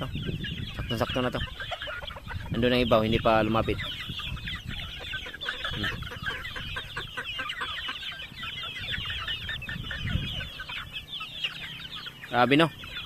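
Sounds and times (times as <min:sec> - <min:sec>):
chicks peeping and chirping: 0:00.0 - 0:13.0.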